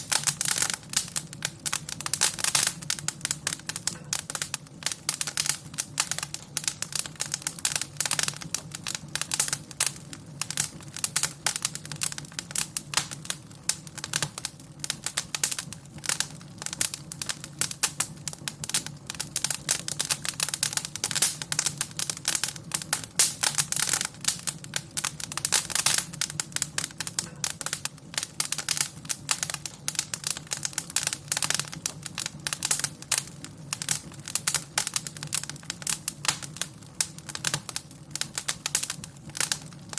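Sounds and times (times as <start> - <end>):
low rumble of burning fire: 0.0 - 39.9
wood fire crackling and popping: 0.0 - 39.9.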